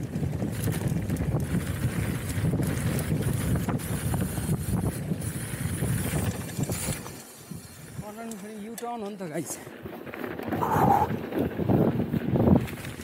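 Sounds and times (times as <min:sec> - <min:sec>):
wind rumble on microphone: 0:00.0 - 0:08.1, 0:09.8 - 0:13.0
bike clicks and rattles: 0:00.0 - 0:13.0.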